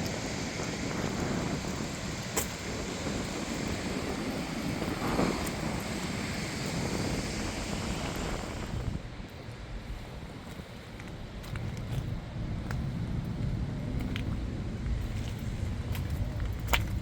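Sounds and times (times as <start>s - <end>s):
low rumble of cars: 0.0s - 17.0s
wind noise on microphone: 0.0s - 17.0s.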